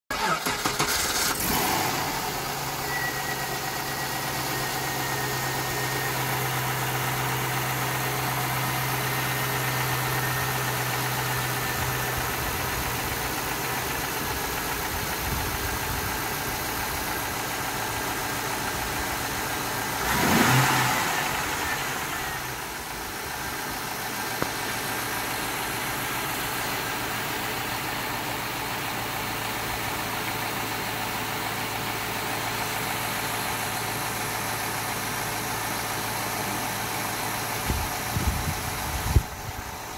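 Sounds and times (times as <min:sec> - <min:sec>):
car engine idling and revving: 0:00.1 - 0:39.9.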